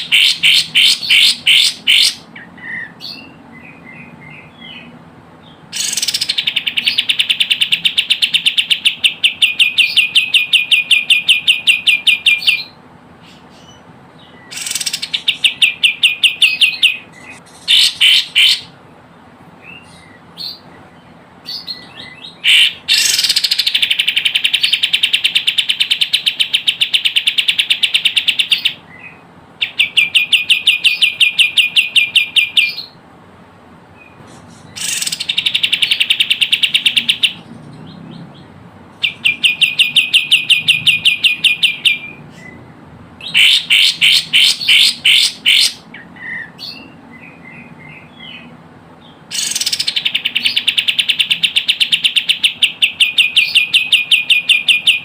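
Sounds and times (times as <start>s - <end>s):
soft bird chirps: 0.0s - 33.0s, 34.0s - 55.0s.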